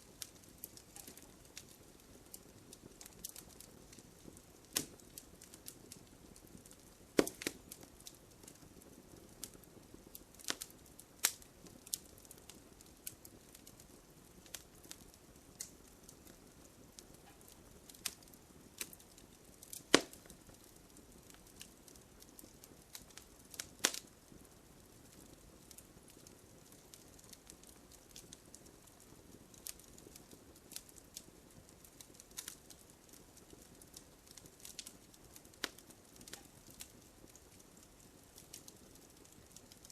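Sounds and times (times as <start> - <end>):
sharp pops from burning logs: 0.0 - 39.9
wood campfire crackling: 0.0 - 39.9.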